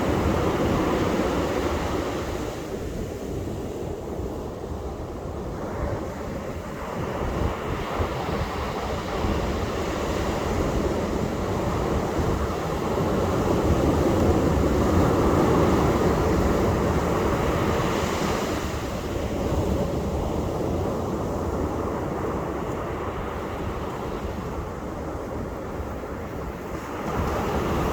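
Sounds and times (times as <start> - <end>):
ocean surf washing on beach: 0.0 - 27.9.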